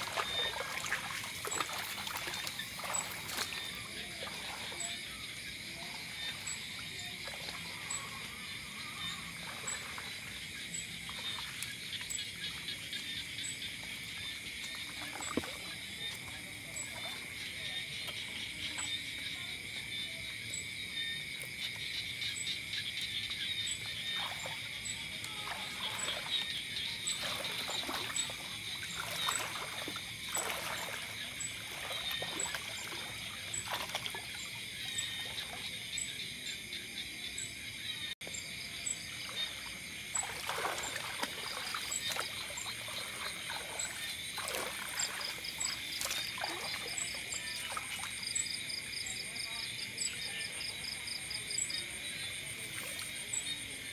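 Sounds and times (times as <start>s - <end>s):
insects and frogs chorus: 0.0s - 53.9s
water splashes and trickles: 0.0s - 53.9s.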